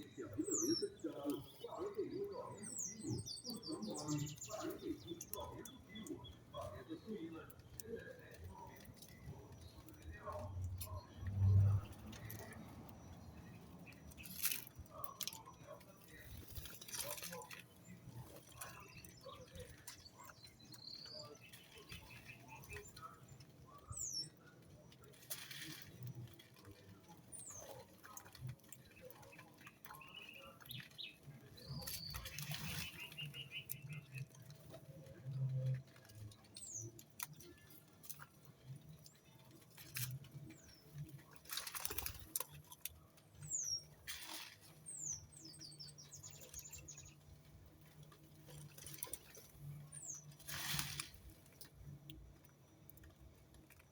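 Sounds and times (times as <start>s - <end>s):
light scratching and pattering: 0.0s - 53.9s
small birds chirping: 0.0s - 53.9s.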